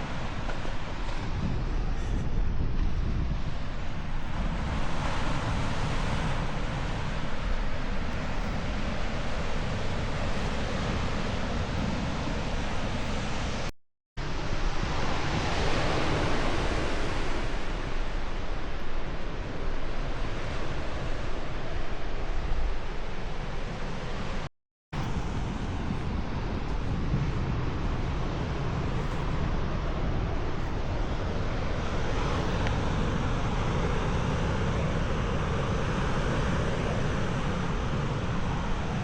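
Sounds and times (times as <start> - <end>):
ocean surf: 0.0 - 39.0
wind buffeting microphone: 0.0 - 39.0.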